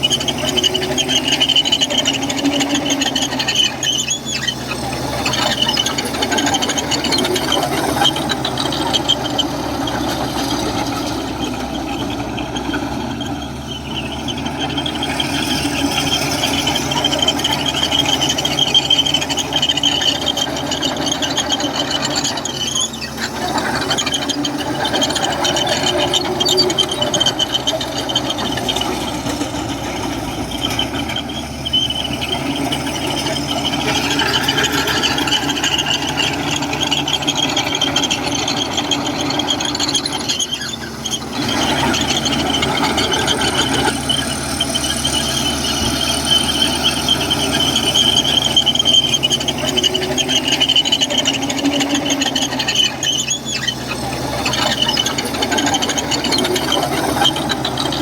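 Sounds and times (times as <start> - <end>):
bulldozer diesel engine running: 0.0 - 58.0
crawler tracks squealing and clattering: 0.0 - 58.0.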